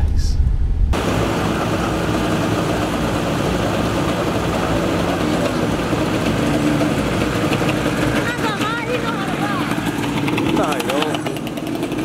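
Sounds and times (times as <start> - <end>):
engines idling: 1.0 - 12.0.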